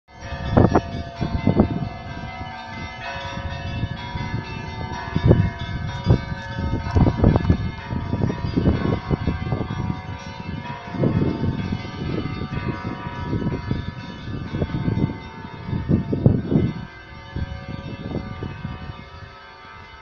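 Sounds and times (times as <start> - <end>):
church bells ringing: 0.1 - 20.0.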